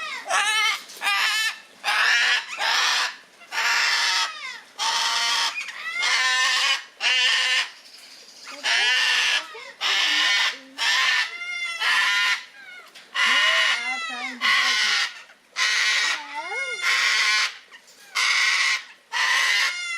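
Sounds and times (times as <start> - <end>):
cockatoo harsh rasping calls: 0.0 - 7.8, 8.4 - 19.9.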